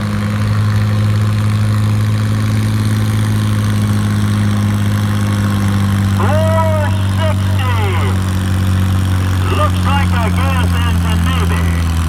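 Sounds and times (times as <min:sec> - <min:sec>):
tractor engine at full throttle: 0:00.0 - 0:12.0.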